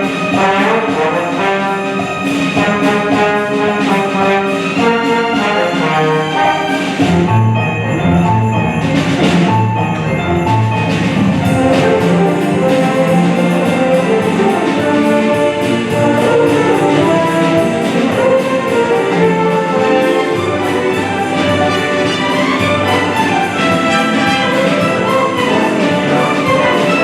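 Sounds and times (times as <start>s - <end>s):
steady percussion beat: 0.0s - 27.0s
symphony orchestra playing: 0.0s - 27.0s.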